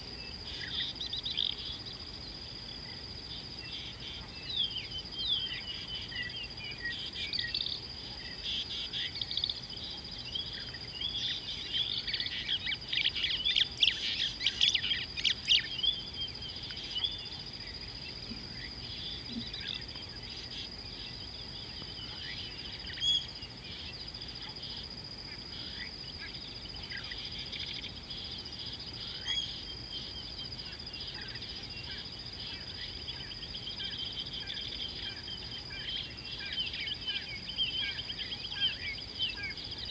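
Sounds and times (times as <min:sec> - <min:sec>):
high-pitched insect drone: 0:00.0 - 0:39.9
small birds chirping: 0:00.0 - 0:39.9.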